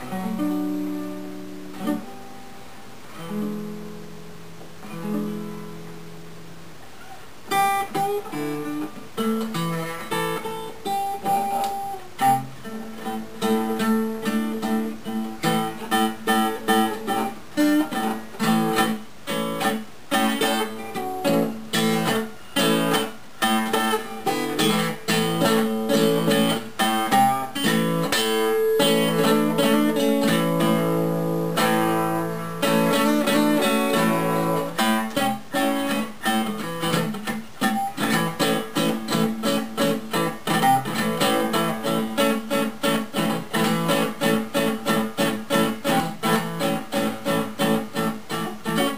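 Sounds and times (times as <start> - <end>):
acoustic guitar playing: 0.0 - 48.9.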